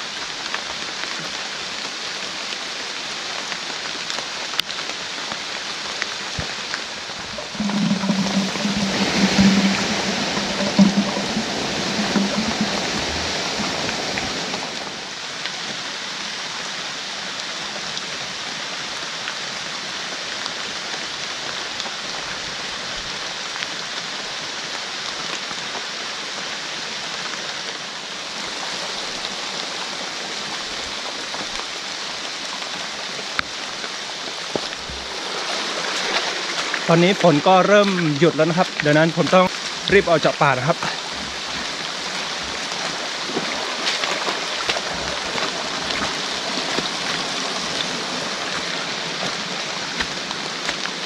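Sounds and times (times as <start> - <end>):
heavy rain hissing: 0.0 - 51.0
stream rushing: 0.0 - 51.0.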